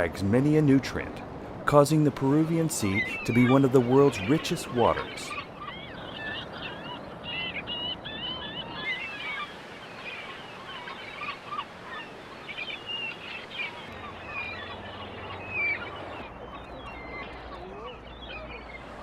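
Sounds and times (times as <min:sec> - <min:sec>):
seabirds calling: 0:00.0 - 0:19.0.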